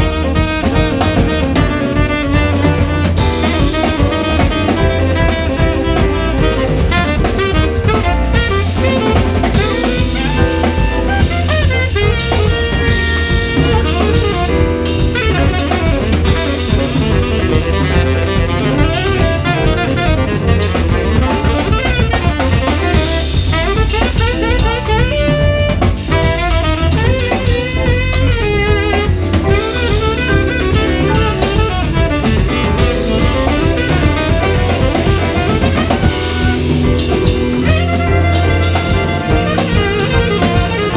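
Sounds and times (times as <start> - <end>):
acoustic bass: 0.0 - 40.9
drum kit: 0.0 - 40.9
piano: 0.0 - 40.9
tenor saxophone: 0.0 - 40.9.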